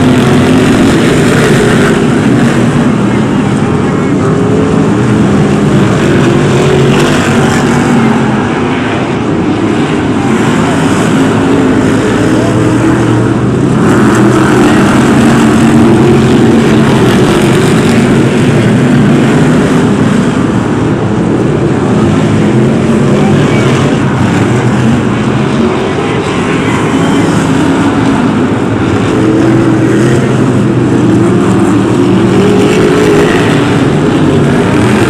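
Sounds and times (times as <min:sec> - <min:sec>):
racing car engines: 0:00.0 - 0:35.0.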